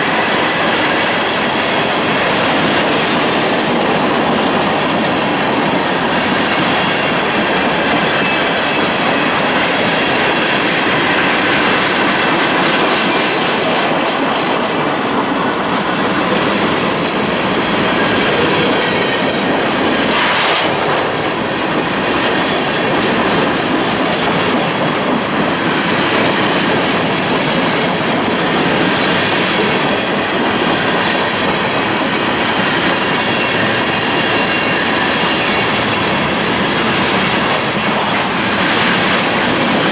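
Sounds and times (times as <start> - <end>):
freight train rumbling past: 0.0 - 39.9
wheels clacking over rail joints: 0.0 - 39.9.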